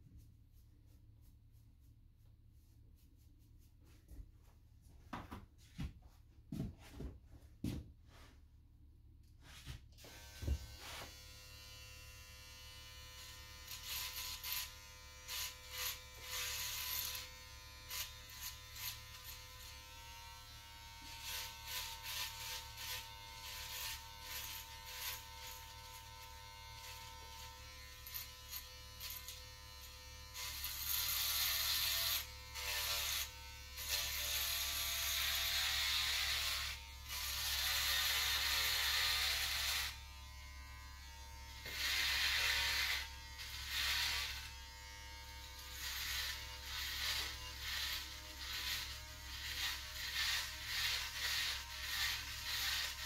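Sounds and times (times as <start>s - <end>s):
electric hair trimmer buzzing: 10.0s - 53.0s.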